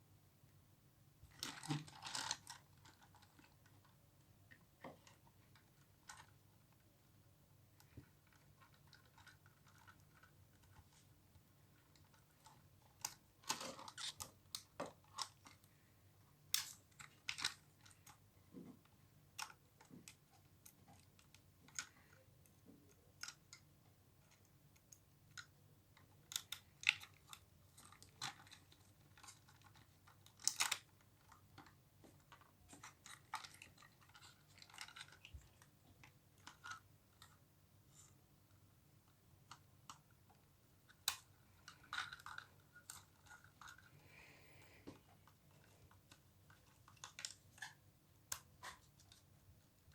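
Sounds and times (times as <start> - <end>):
hands handling plastic packaging: 1.3 - 6.8, 7.8 - 23.6, 24.2 - 49.9.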